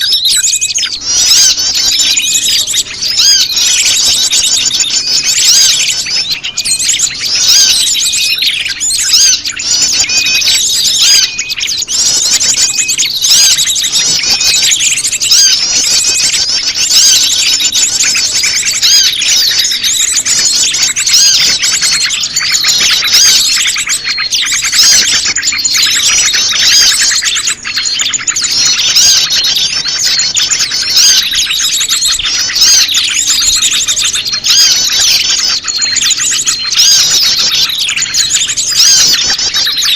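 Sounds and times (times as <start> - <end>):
small birds chattering and trilling: 0.0 - 39.9.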